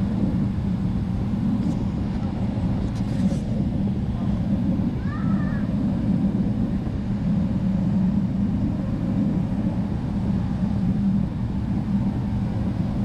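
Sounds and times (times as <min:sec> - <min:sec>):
airplane cabin engine noise: 0:00.0 - 0:13.0.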